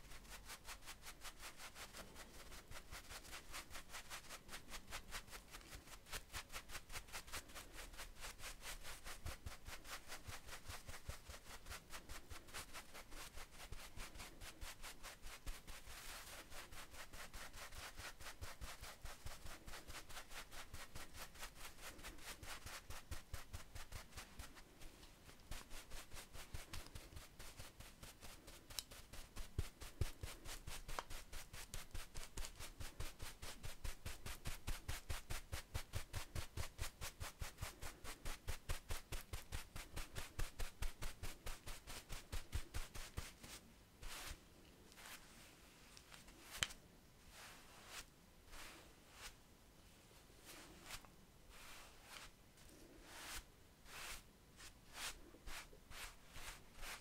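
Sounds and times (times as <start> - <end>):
brush bristles rubbing skin: 0.0 - 49.4, 50.4 - 57.0.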